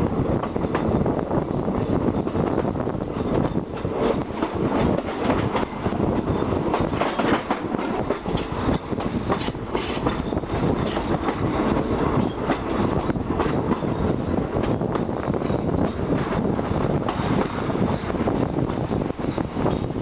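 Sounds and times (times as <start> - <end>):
train wheels clattering over rails: 0.3 - 20.0.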